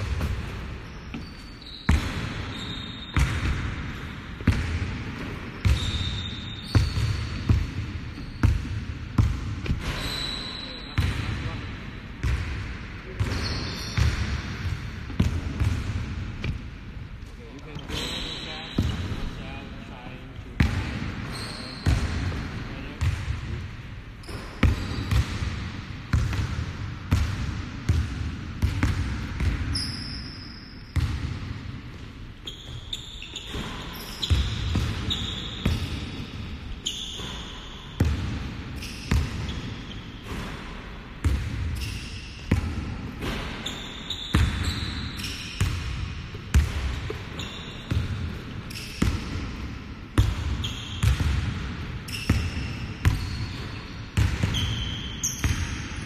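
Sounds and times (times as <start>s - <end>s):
sneaker squeaks: 0.0s - 11.6s, 13.1s - 15.5s, 17.4s - 23.6s, 24.2s - 25.4s, 28.6s - 40.7s, 41.6s - 42.6s, 43.2s - 49.6s, 50.2s - 51.3s, 52.0s - 56.0s.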